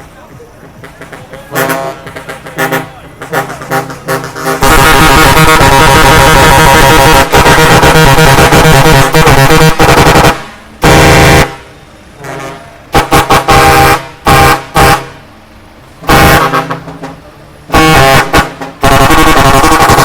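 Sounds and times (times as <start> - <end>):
truck air horns blasting: 0.7 - 20.0.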